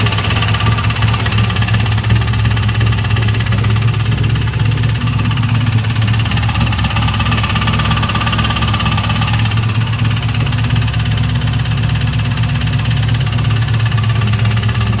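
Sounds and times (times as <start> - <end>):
car engine idling: 0.0 - 15.0
rapid engine knock: 0.0 - 15.0.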